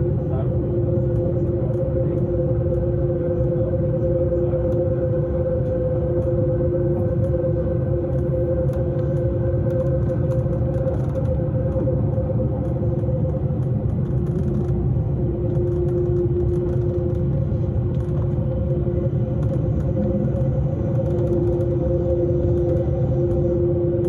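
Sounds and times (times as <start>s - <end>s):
electric train rumbling on board: 0.0s - 24.0s
train humming tones: 0.0s - 24.0s.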